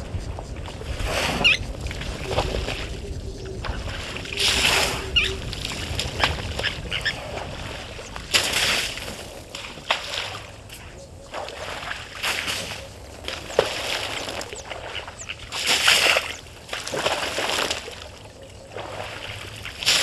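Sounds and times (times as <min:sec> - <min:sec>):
elephant splashing water: 0:00.4 - 0:20.0.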